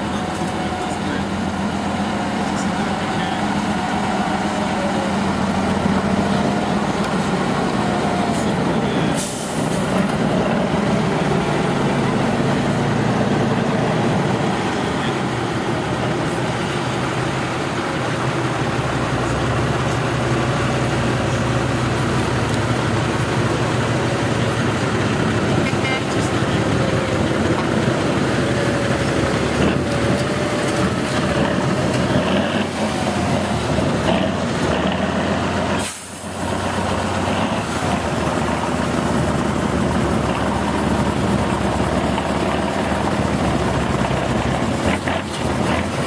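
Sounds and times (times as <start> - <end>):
diesel truck engine under load: 0.0 - 46.0.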